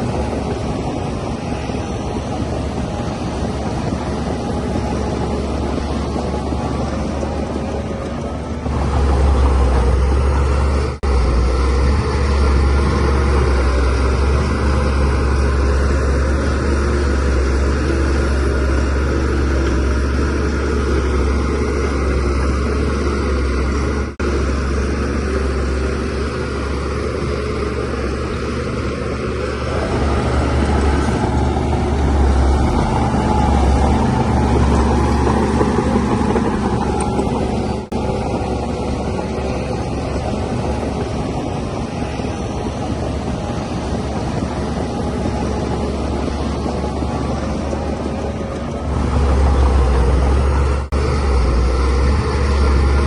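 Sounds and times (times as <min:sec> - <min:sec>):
bulldozer diesel engine rumbling: 0:00.0 - 0:53.0.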